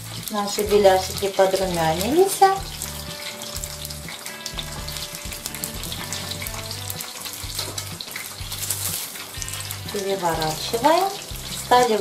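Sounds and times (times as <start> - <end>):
pies sizzling in hot oil: 0.0 - 12.0.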